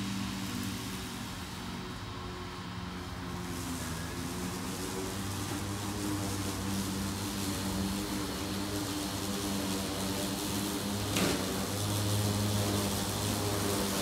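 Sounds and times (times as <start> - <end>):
electric lawn mower humming: 0.0 - 14.0.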